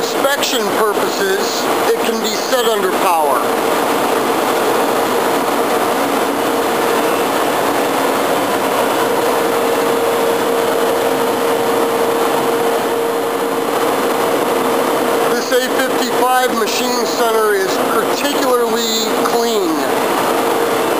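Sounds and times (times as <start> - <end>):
mechanical hum: 0.0 - 20.9
steady mid-pitched tone: 0.0 - 20.9.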